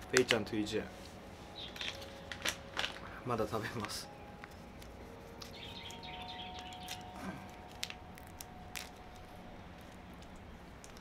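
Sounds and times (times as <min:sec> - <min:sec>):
plastic wrapper crinkling: 0:01.6 - 0:11.0.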